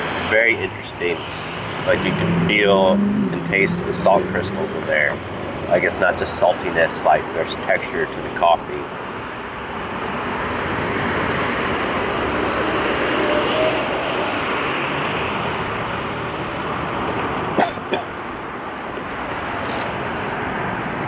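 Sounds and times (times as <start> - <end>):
steady rushing noise: 0.0 - 17.5.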